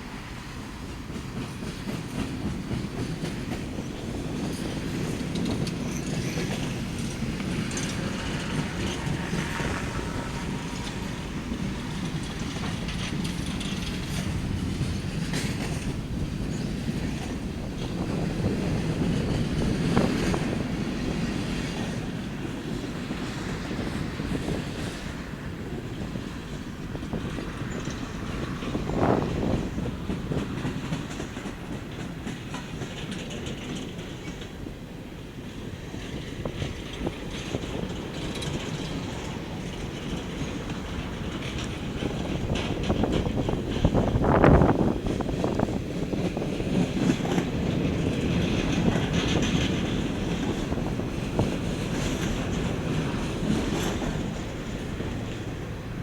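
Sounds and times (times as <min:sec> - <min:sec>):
train rumbling past: 0:00.0 - 0:56.0
wheels clicking over rail joints: 0:00.6 - 0:56.0.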